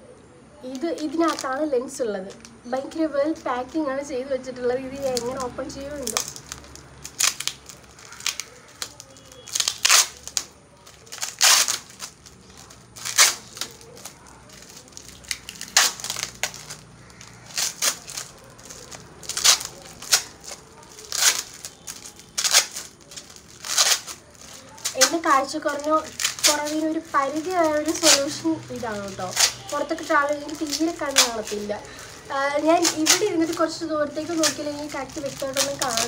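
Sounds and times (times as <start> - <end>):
paper crinkling and tearing: 0.6 - 3.9, 4.9 - 36.0.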